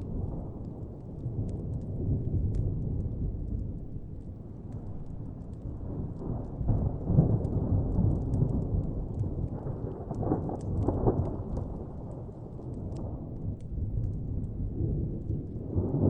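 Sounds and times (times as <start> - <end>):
distant thunder rumbling: 0.0 - 16.0
wood fire crackling: 0.0 - 16.0.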